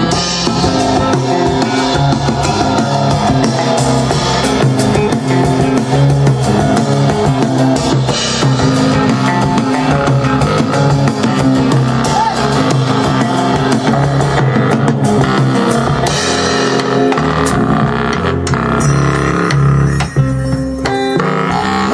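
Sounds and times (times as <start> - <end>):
rock music with drums and guitar: 0.0 - 21.9.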